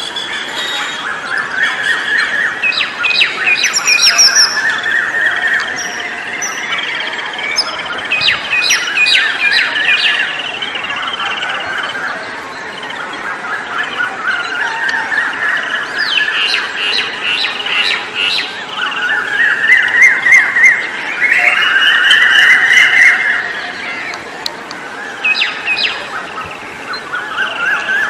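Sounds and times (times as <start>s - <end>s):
birds chirping and squawking: 0.0s - 24.2s.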